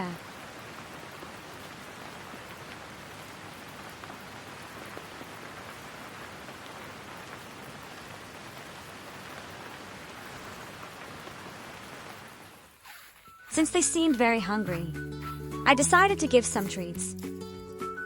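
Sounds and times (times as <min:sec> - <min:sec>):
steady rain falling: 0:00.0 - 0:14.8.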